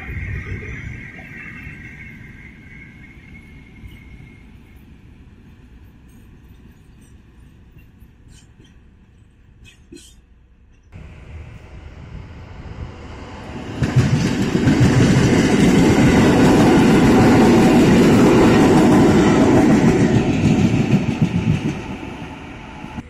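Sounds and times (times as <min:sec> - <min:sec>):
electric train passing: 0:00.0 - 0:09.6, 0:11.0 - 0:23.0.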